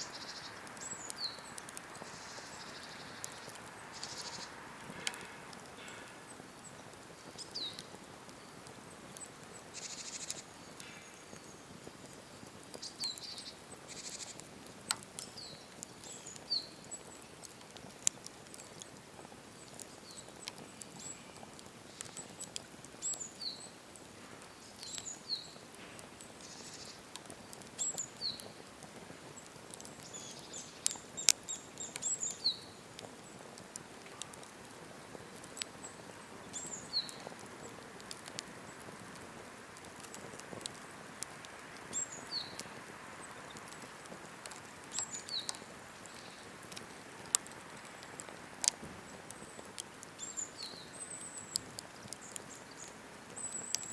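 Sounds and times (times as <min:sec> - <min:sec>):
campfire crackling: 0:00.0 - 0:53.9
small birds chirping: 0:00.0 - 0:53.9
sharp pops of fire: 0:00.2 - 0:53.9.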